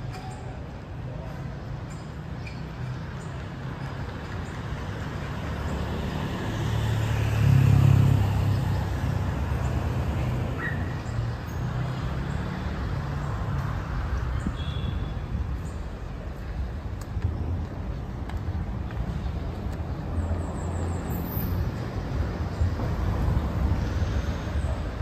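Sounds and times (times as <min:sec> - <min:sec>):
traffic hum: 0:00.0 - 0:25.0.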